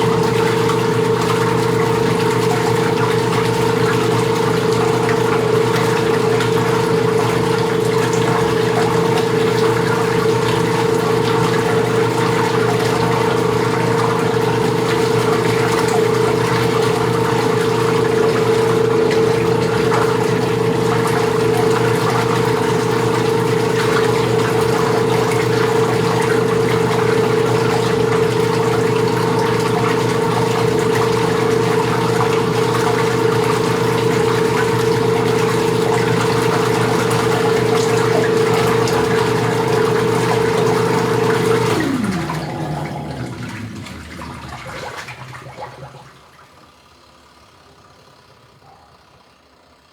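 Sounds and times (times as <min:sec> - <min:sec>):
washing machine motor hum: 0:00.0 - 0:49.9
water churning in tub: 0:00.0 - 0:49.9.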